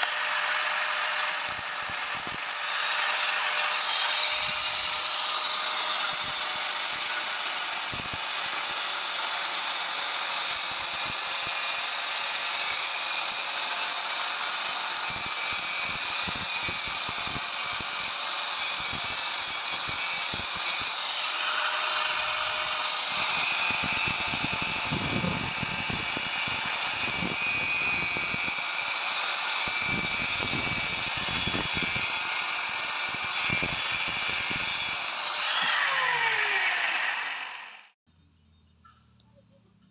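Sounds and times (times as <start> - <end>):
power tool hissing on metal: 1.2 - 37.9.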